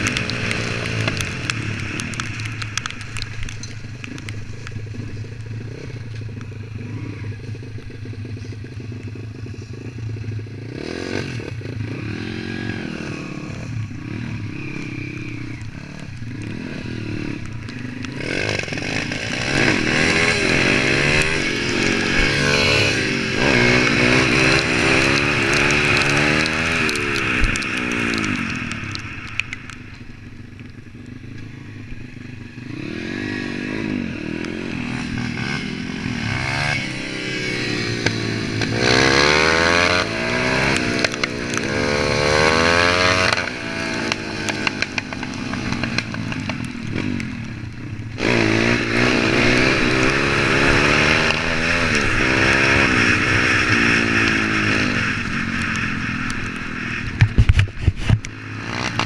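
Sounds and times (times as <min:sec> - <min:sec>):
pit bike engine revving: 0:00.0 - 0:30.4, 0:31.2 - 0:59.0
wind and tyre rushing: 0:00.0 - 0:59.0.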